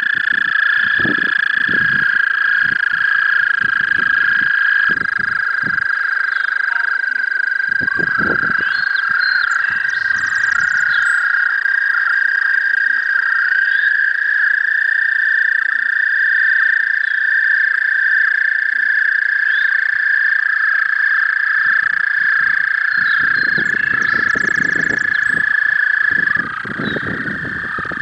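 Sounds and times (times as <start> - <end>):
toads trilling in chorus: 0.0 - 28.0.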